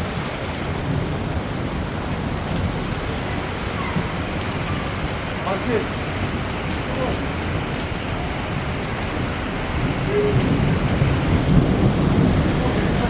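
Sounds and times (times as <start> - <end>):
heavy rain pouring: 0.0 - 13.0
thunder rumbling: 0.0 - 13.0.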